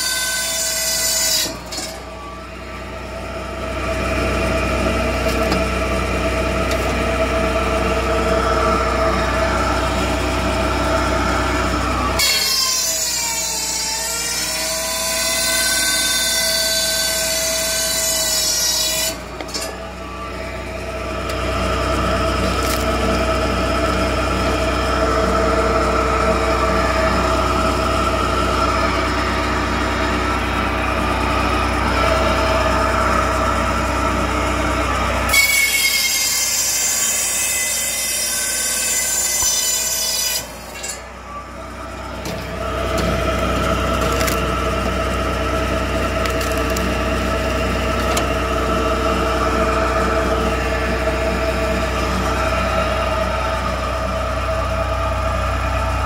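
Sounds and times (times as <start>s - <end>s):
high screech of log splitting: 0.0s - 54.8s
firewood processor droning: 0.0s - 56.0s.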